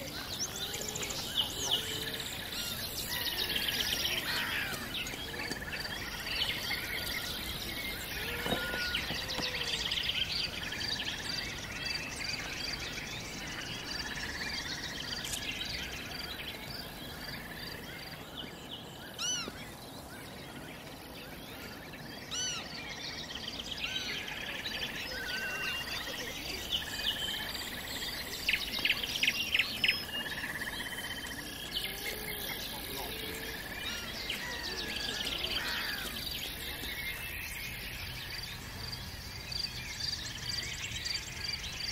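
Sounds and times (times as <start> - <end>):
birds chirping and singing: 0.0 - 41.9.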